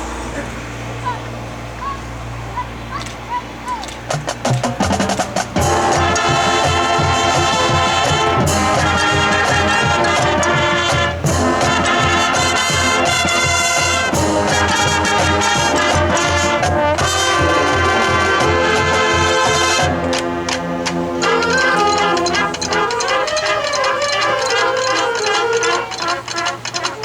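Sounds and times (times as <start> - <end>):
brass marching band: 2.6 - 27.0.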